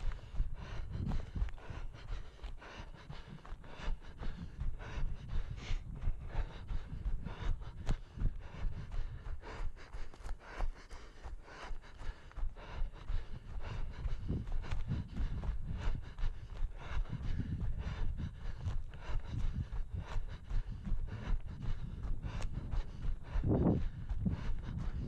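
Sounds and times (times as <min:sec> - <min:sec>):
heavy panting breaths: 0:00.0 - 0:25.0.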